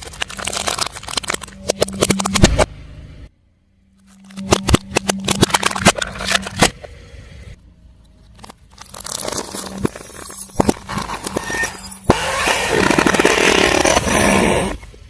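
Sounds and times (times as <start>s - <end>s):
steady low hum: 0.2s - 15.0s.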